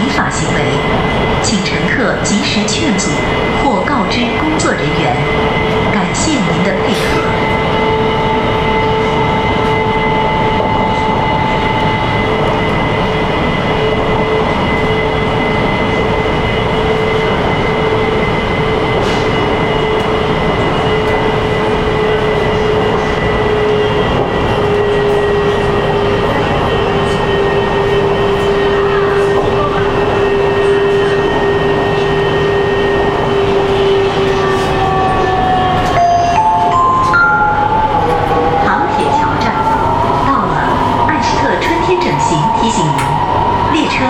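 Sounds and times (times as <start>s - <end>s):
constant train whine: 0.0s - 44.0s
subway train rumbling in tunnel: 0.0s - 44.0s.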